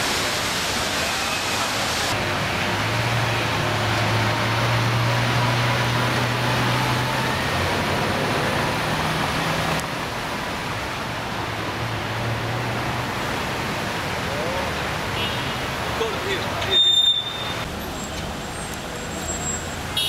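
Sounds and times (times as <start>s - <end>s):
street noise hiss: 0.0s - 20.0s.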